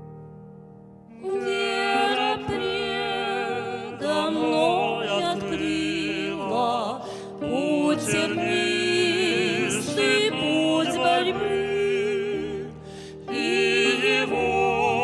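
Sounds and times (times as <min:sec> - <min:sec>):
piano accompaniment: 0:00.0 - 0:15.0
choir singing a hymn: 0:01.1 - 0:15.0.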